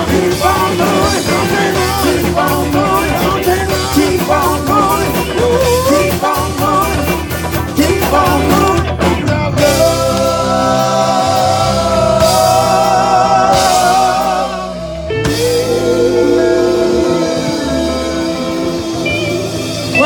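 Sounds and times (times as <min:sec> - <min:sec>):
drum kit: 0:00.0 - 0:20.0
live rock band playing: 0:00.0 - 0:20.0.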